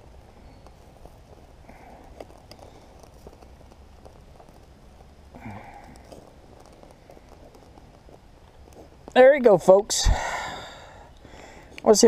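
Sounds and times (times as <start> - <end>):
burner ticking and crackling: 0.0 - 12.0.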